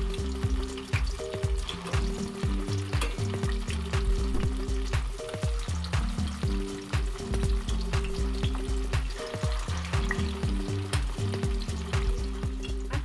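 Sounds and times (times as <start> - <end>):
background music with beat: 0.0 - 13.0
tofu sizzling in hot oil: 0.0 - 13.0.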